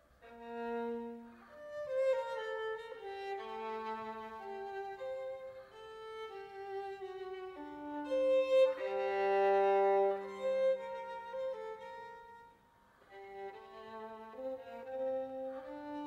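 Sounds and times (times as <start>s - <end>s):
violin long bowed notes: 0.0s - 16.0s.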